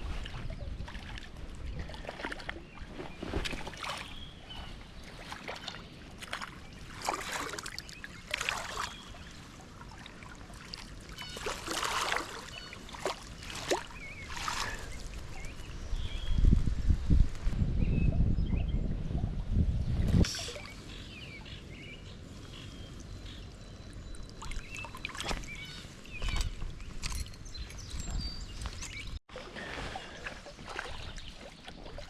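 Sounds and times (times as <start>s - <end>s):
water splashing and sloshing: 0.0s - 16.0s, 22.3s - 32.0s.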